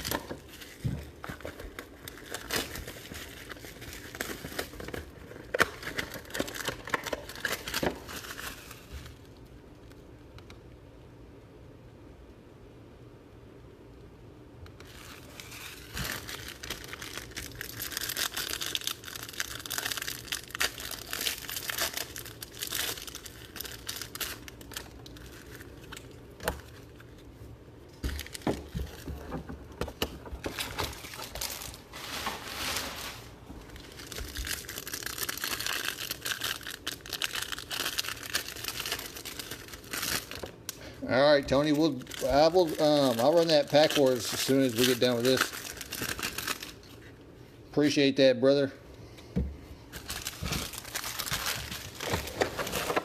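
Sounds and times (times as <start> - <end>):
plastic wrapping crinkling: 0.0 - 10.0, 14.8 - 47.3, 49.9 - 53.0.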